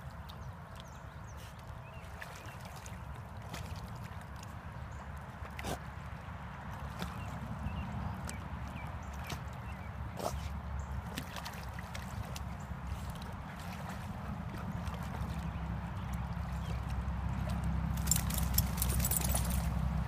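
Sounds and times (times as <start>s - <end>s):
water sloshing and gurgling: 0.0s - 20.0s.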